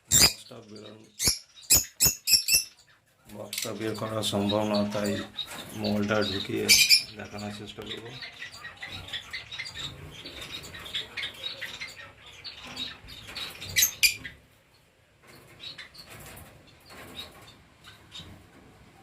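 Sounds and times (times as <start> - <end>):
birds rustling: 0.0 - 19.0
lovebirds chirping: 0.0 - 19.0.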